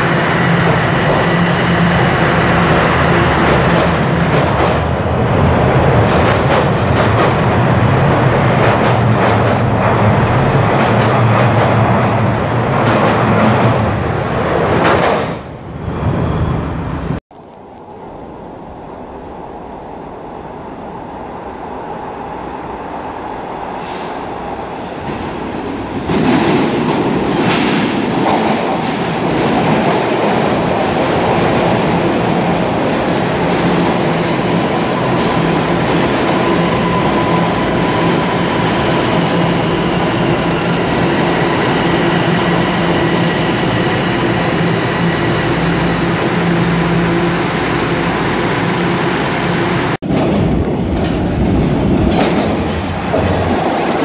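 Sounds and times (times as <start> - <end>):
subway train in tunnel: 0.0 - 54.0.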